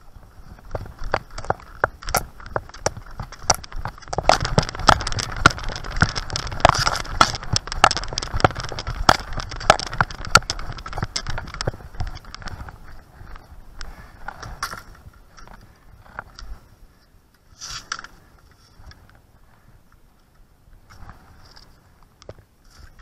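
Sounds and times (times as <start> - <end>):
ski poles clicking: 0.0 - 16.7, 17.4 - 23.0
skis gliding on snow: 0.0 - 16.9, 17.5 - 20.2, 20.8 - 23.0.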